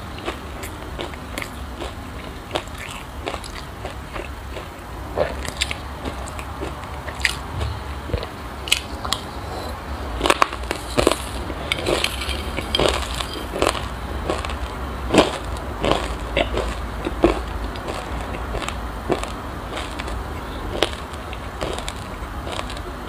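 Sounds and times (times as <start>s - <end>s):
crunching and chewing seeds: 0.0s - 23.0s.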